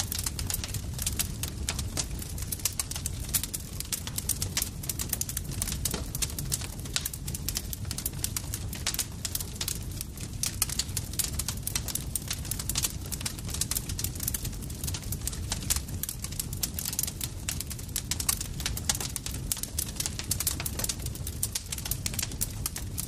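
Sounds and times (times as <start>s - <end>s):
crackles and pops of burning wood: 0.0s - 23.0s
low rumble of flames: 0.0s - 23.0s.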